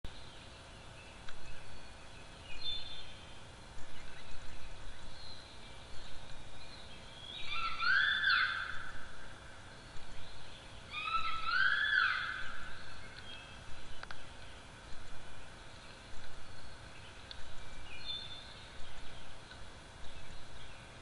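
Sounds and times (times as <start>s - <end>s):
distant bird calling: 0.1s - 21.0s.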